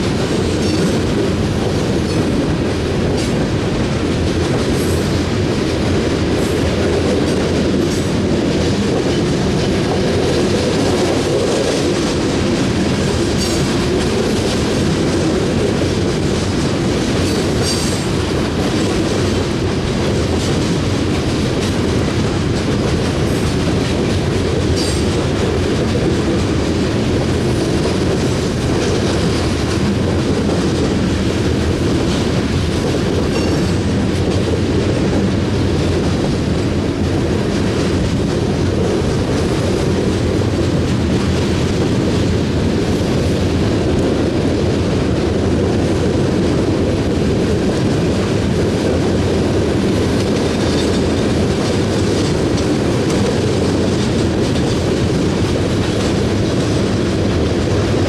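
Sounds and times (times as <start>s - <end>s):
clickety-clack over rail joints: 0.0s - 58.0s
train wheels rumbling: 0.0s - 58.0s.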